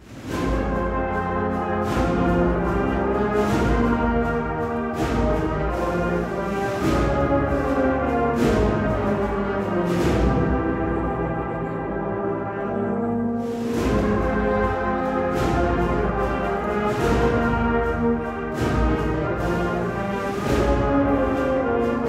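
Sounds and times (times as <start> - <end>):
crashing percussion strikes: 0.0 - 10.8, 13.4 - 22.0
brass band playing chords: 0.0 - 22.0.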